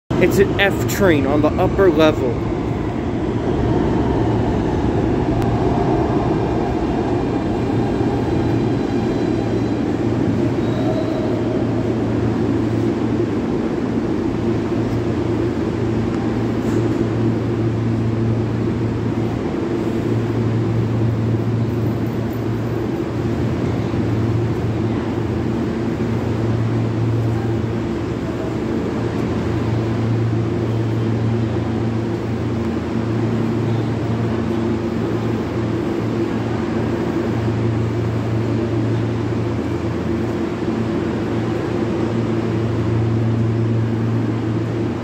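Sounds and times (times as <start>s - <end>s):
noisy background: 0.1s - 45.0s
subway train equipment humming: 0.1s - 45.0s.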